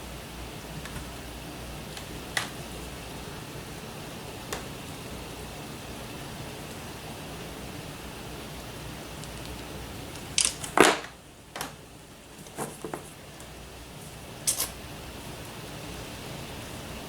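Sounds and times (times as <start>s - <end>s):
heavy rain hissing: 0.0s - 10.6s, 13.2s - 17.0s.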